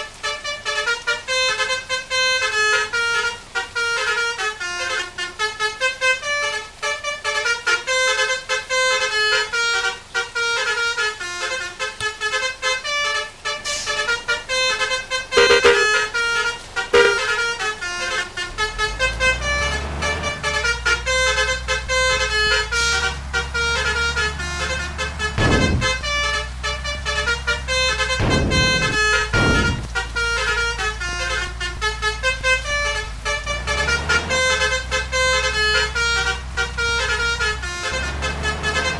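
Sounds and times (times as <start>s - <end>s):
bus engine rumble: 0.0s - 38.9s
musical bus horn melody: 0.0s - 38.9s.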